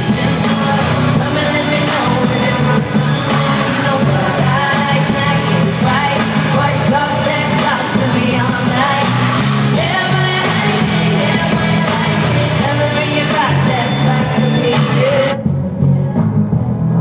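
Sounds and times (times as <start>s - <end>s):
woman singing: 0.0s - 15.4s
live pop concert music: 0.0s - 17.0s
steady bass beat: 0.0s - 17.0s.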